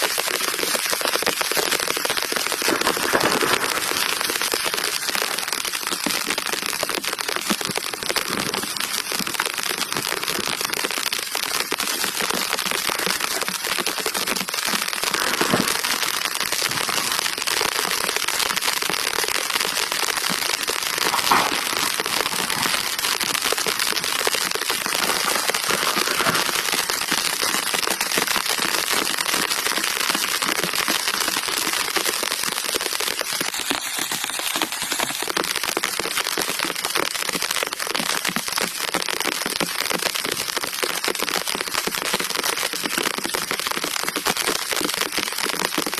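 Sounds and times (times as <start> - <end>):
loud cracks: 0.0 - 37.8
dense crackling: 0.0 - 45.9
rain pattering: 0.0 - 45.9.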